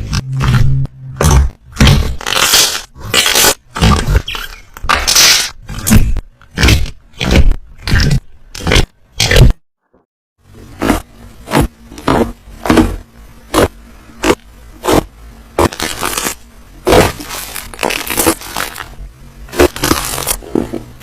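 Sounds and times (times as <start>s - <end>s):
slime squelching: 0.0s - 9.6s, 10.5s - 21.0s.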